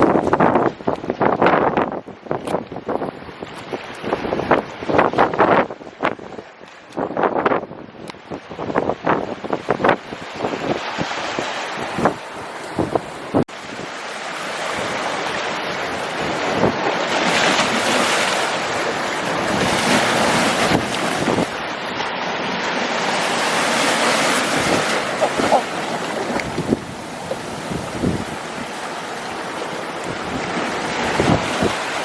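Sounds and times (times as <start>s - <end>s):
wind buffeting microphone: 0.0s - 14.0s, 14.6s - 32.0s
ocean surf breaking: 0.0s - 32.0s.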